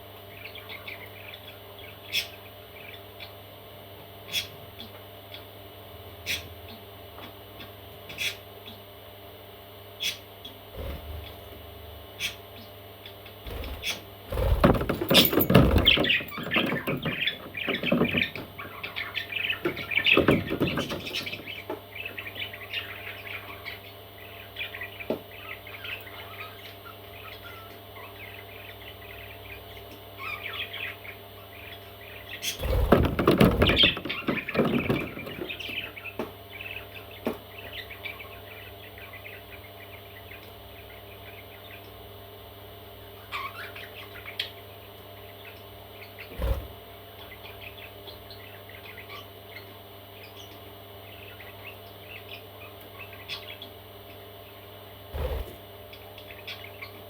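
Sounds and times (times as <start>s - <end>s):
parrot chicks chirping and squawking: 0.0s - 57.0s.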